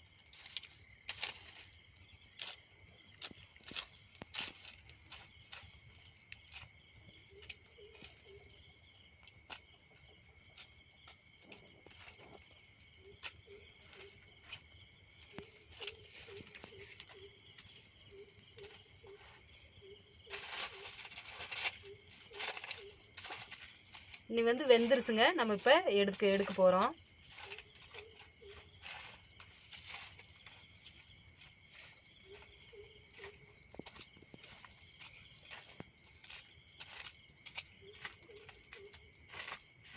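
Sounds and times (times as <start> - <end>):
crickets trilling: 0.0 - 39.9
insects chirping: 0.0 - 39.9.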